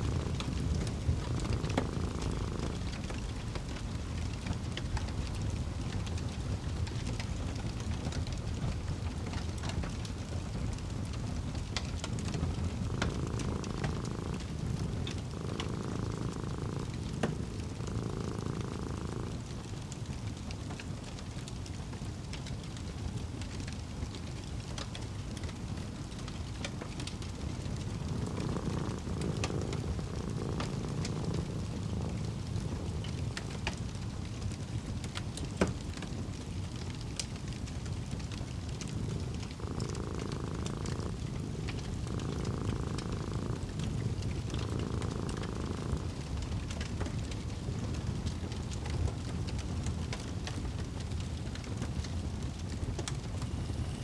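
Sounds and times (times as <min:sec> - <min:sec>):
cat purring: 0:00.0 - 0:54.0
fireplace crackling: 0:00.0 - 0:54.0
low rumble of fire: 0:00.0 - 0:54.0.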